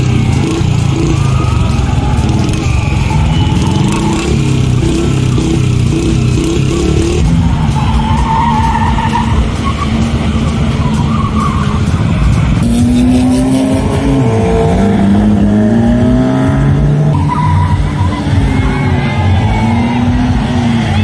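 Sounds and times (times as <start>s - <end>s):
tyres squealing: 0.0s - 15.8s, 17.0s - 21.0s
engine revving hard: 0.0s - 21.0s.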